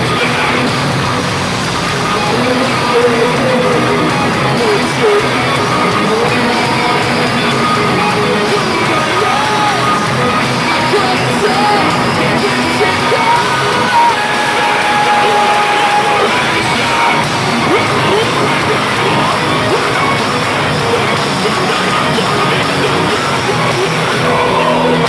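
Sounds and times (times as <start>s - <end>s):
metalcore band playing live: 0.0s - 25.0s.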